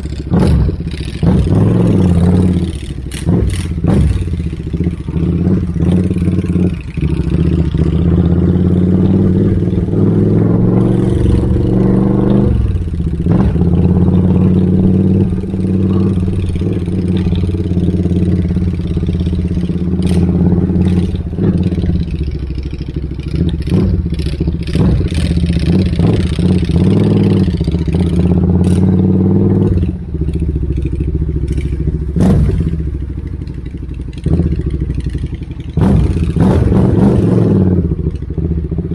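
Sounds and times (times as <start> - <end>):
motorcycle with loud open exhaust: 0.0 - 38.9.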